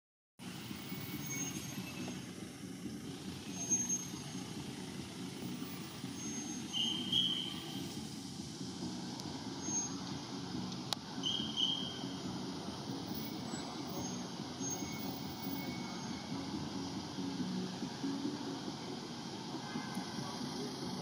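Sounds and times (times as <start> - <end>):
steady low drone: 0.4 - 21.0.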